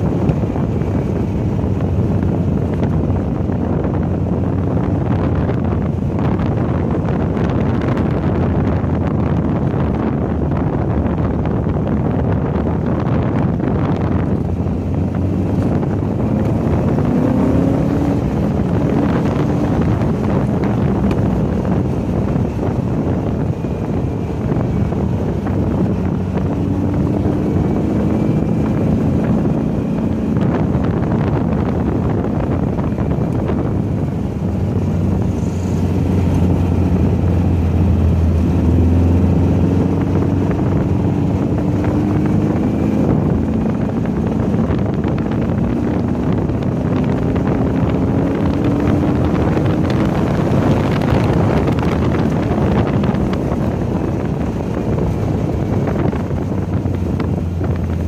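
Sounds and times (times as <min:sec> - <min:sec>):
race car engine accelerating: 0:00.0 - 0:58.0
wind buffeting microphone: 0:00.0 - 0:58.0.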